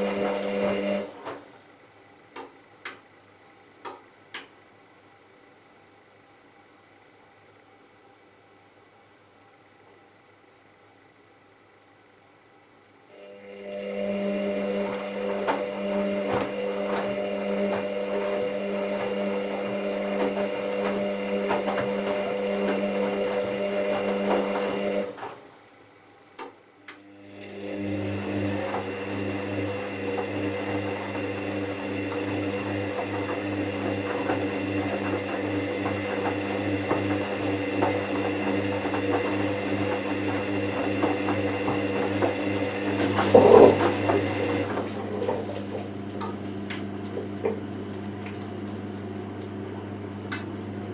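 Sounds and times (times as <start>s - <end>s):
washing machine motor hum: 0.0s - 3.0s, 13.1s - 50.9s.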